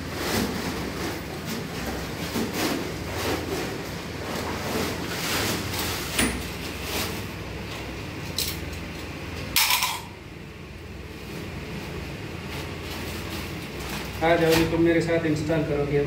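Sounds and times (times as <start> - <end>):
handling and scraping noises: 0.0 - 10.1, 11.2 - 15.5
steady low hum: 0.0 - 16.0.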